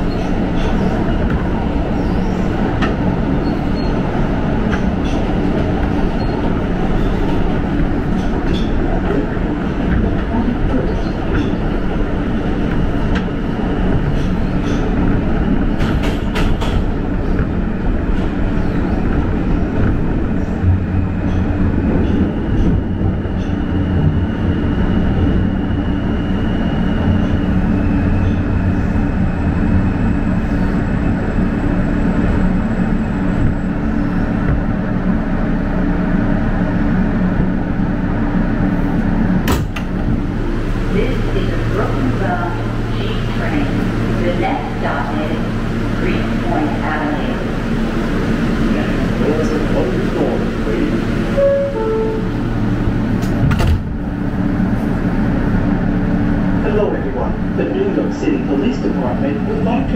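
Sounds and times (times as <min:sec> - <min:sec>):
subway wheels rumbling on rail: 0:00.0 - 0:59.9.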